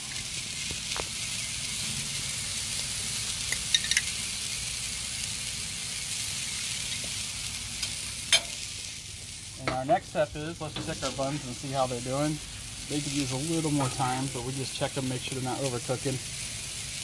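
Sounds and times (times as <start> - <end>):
food sizzling on griddle: 0.0 - 17.0.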